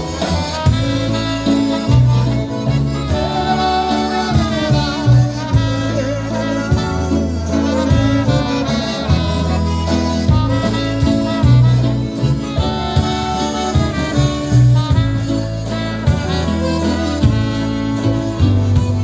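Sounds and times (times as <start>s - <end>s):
oom-pah-pah bass: 0.0s - 19.0s
polka band playing a waltz: 0.0s - 19.0s.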